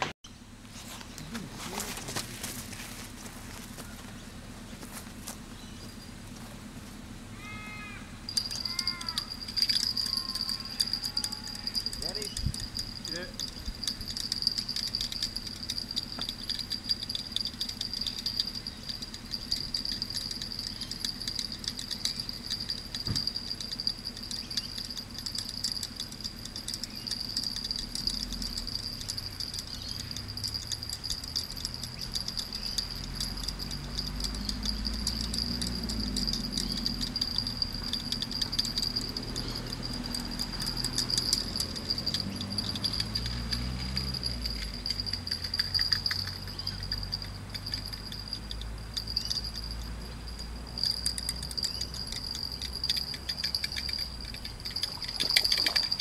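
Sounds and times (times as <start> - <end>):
insects trilling: 7.3 - 56.0.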